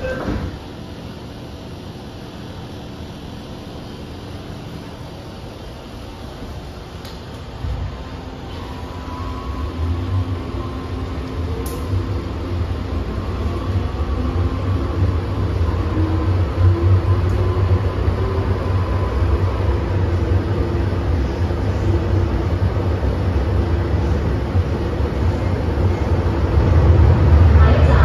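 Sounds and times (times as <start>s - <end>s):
train rumbling with motor tone: 0.0s - 28.0s.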